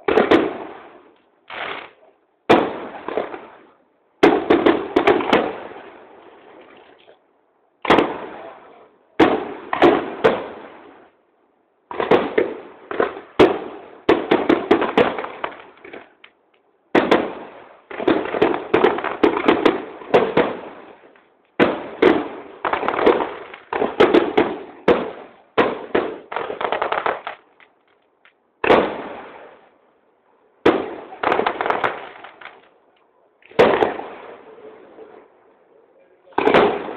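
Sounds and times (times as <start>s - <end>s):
fireworks bangs: 0.0s - 7.2s, 7.8s - 11.2s, 11.9s - 35.4s, 36.2s - 36.9s.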